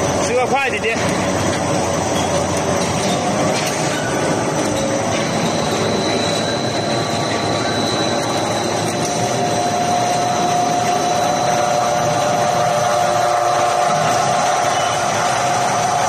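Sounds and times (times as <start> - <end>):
low steady machine tone: 0.0 - 16.0
machine rattle with high whine: 0.0 - 16.0.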